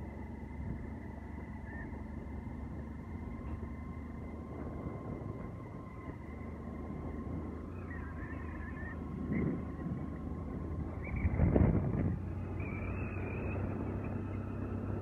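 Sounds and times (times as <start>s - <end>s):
faint steady whine: 0.0s - 15.0s
vehicle engine and road noise: 0.0s - 15.0s.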